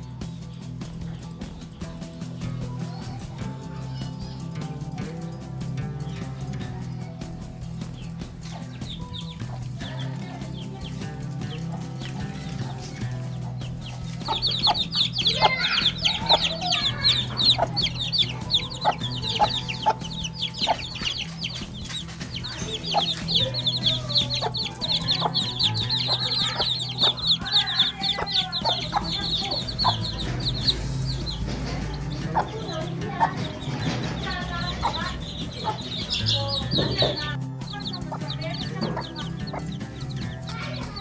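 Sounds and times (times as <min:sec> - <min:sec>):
chickens clucking: 0:00.0 - 0:41.0
rapid high-pitched peeping: 0:00.0 - 0:41.0.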